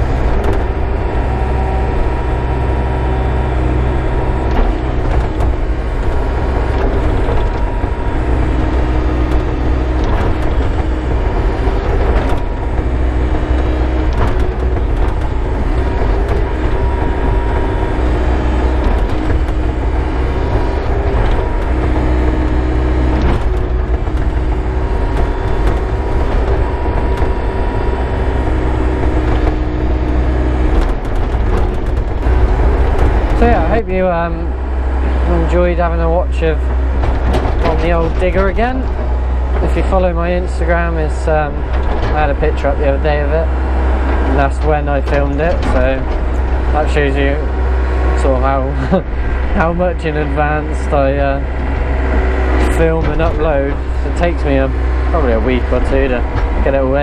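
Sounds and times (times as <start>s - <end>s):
excavator diesel engine running: 0.0s - 57.0s
short knocks: 4.0s - 57.0s.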